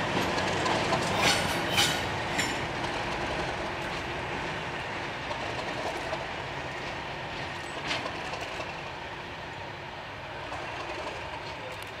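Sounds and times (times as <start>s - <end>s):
diesel train engines and wheels rumbling: 0.0s - 12.0s.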